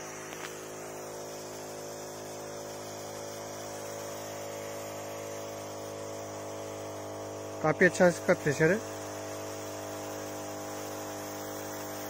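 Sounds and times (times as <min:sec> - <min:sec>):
electric pump hum: 0:00.0 - 0:12.0
spray nozzle hissing: 0:00.0 - 0:12.0.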